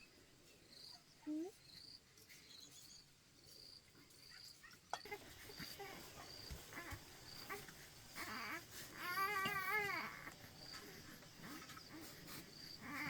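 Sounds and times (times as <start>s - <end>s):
insects chirping: 1.6s - 13.0s.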